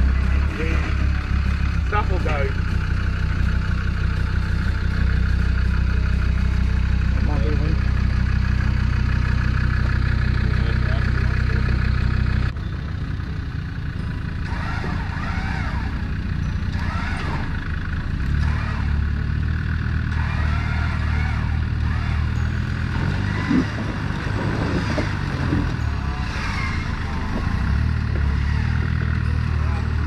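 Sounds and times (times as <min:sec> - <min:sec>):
engine running at low revs: 0:00.0 - 0:30.0.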